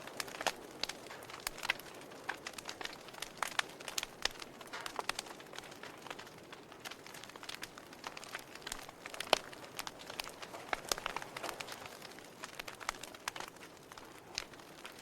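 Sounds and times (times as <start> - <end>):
soft steady hiss: 0.0 - 15.0
wood fire crackling and popping: 0.0 - 15.0.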